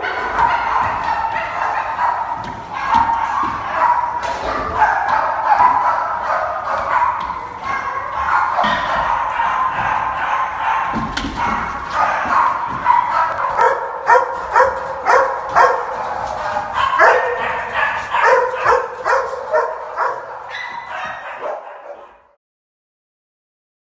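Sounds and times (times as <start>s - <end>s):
dogs barking and yelping: 0.0s - 22.4s.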